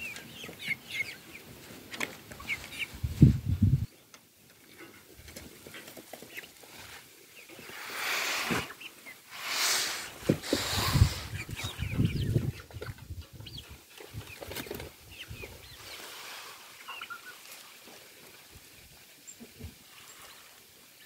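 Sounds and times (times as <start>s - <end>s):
hens chirping: 0.0s - 21.0s.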